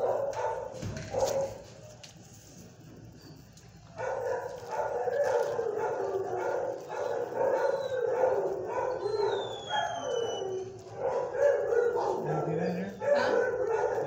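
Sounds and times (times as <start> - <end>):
dogs barking and howling: 0.0 - 1.8, 3.9 - 14.0.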